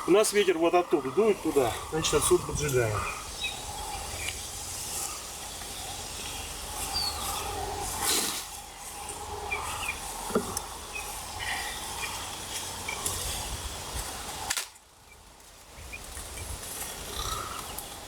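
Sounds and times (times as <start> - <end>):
birds chirping: 0.0 - 18.0
fire hissing in a brazier: 0.0 - 18.0
sharp crackle of fire: 1.4 - 9.3, 10.0 - 18.0.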